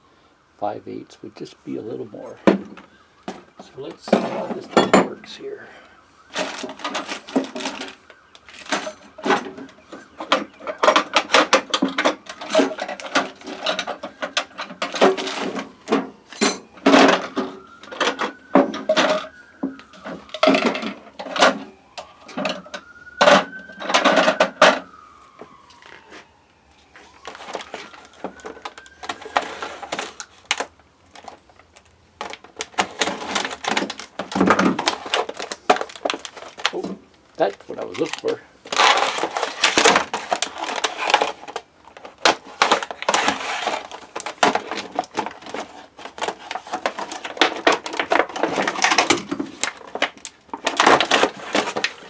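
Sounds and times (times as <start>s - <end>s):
metal rattling in plastic case: 2.4s - 5.4s, 6.2s - 24.9s, 27.2s - 52.0s.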